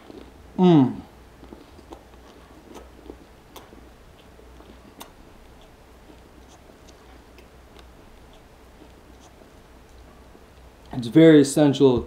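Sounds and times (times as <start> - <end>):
chewing with wet mouth clicks: 0.0 - 0.4, 1.2 - 10.9.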